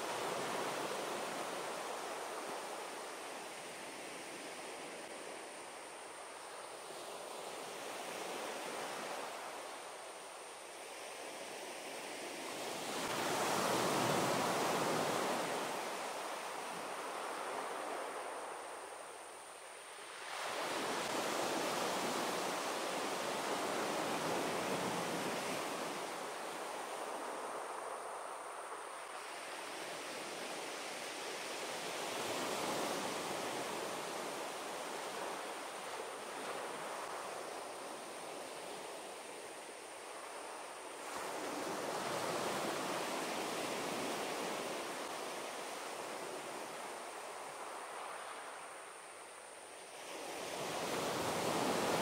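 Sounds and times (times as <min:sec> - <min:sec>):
waves breaking on a beach: 0:00.0 - 0:52.0.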